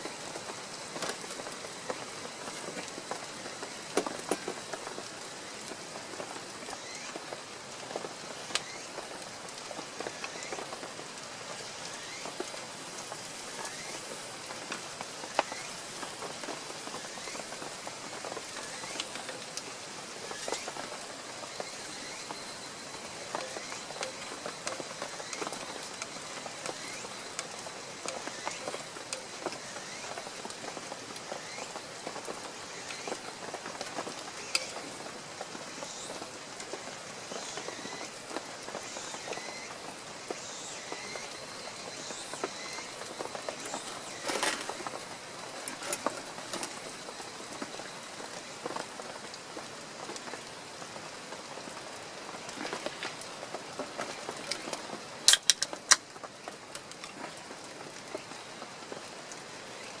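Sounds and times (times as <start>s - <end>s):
rain pattering: 0.0s - 60.0s.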